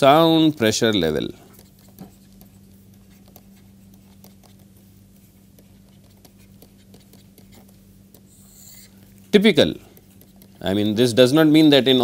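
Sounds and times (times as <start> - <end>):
steady low hum: 0.0 - 12.0
stylus tapping and scratching: 1.2 - 12.0.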